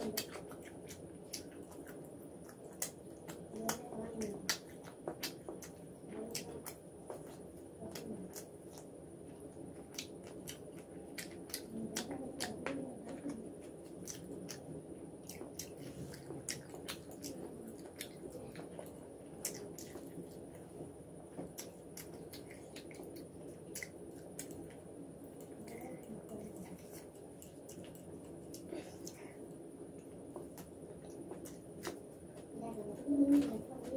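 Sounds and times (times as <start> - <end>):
wet chewing: 0.0 - 33.9.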